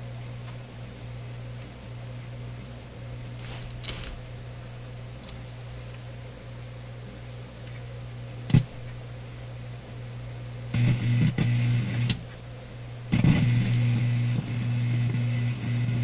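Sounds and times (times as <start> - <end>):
low mains hum: 0.0 - 16.0.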